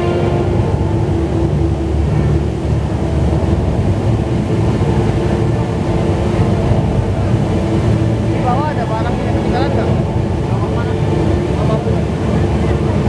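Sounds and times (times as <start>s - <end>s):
indoor waterfall roaring: 0.0s - 13.0s.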